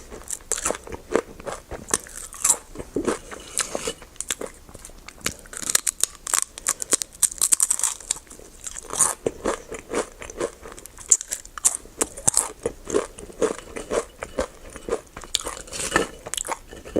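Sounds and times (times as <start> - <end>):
crunchy biting and chewing: 0.0 - 16.9.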